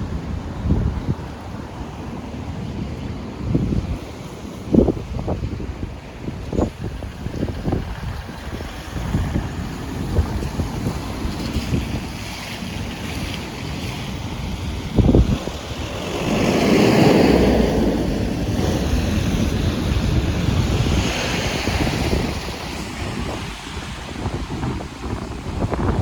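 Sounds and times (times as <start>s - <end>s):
waves washing against shore: 0.0s - 26.0s
wind buffeting microphone: 0.0s - 26.0s.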